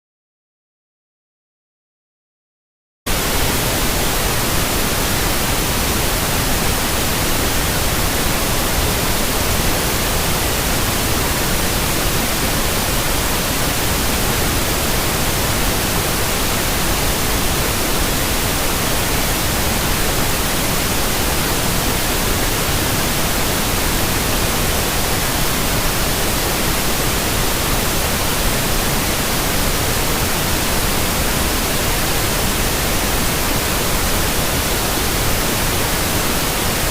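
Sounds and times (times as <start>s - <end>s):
white noise hiss: 3.1s - 36.9s.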